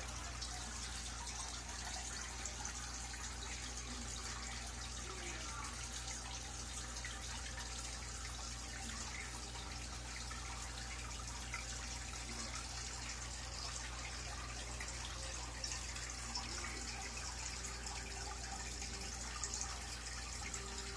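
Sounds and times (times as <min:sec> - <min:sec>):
aquarium water trickling: 0:00.0 - 0:20.9.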